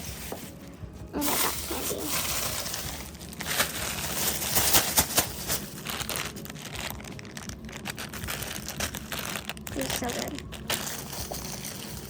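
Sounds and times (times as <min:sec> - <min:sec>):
plastic packaging crinkling: 0:01.2 - 0:12.0.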